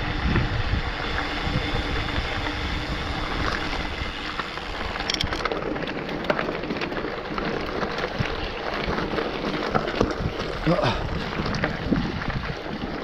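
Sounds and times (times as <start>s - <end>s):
gravel and bike rattling: 0.0s - 13.0s
wind and tyre noise: 0.0s - 13.0s.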